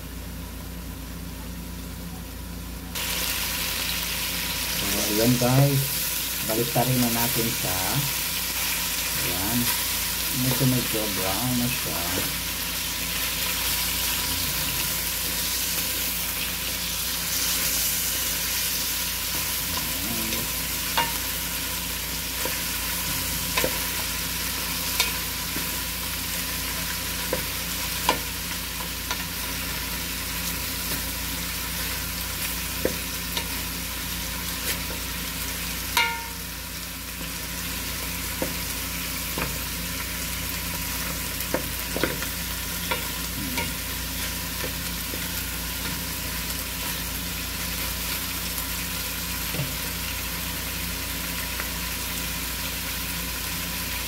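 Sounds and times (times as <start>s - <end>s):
meat sizzling in hot oil: 3.0s - 54.0s.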